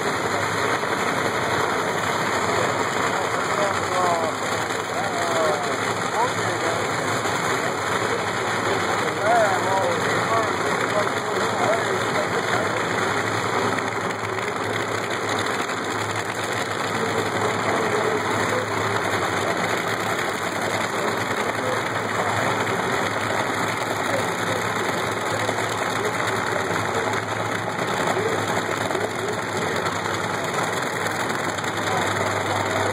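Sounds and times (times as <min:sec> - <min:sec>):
crowd chatter: 0:00.0 - 0:32.9
race car engines idling: 0:00.0 - 0:32.9.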